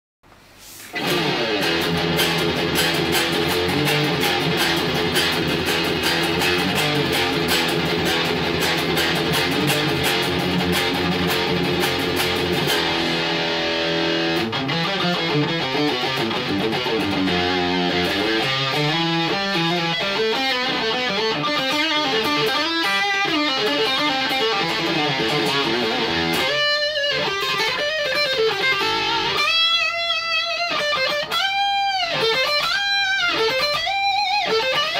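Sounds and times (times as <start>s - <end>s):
electric guitar playing: 0.9s - 34.9s.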